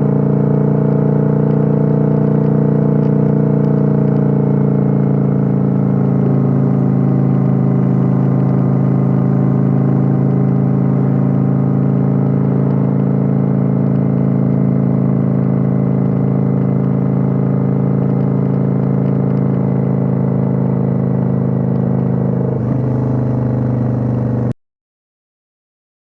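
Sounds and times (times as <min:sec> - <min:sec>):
motorcycle engine running: 0:00.0 - 0:24.6.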